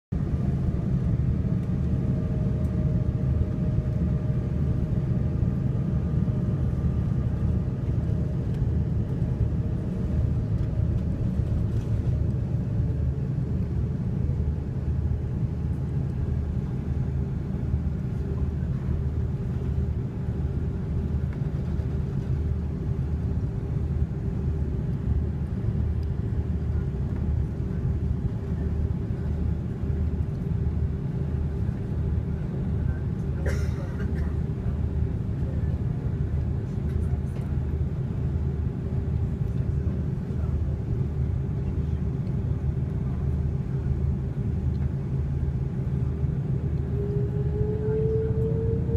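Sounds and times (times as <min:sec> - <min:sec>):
airplane cabin rumble: 0:00.1 - 0:48.9
jet engine idle whine: 0:00.2 - 0:48.9.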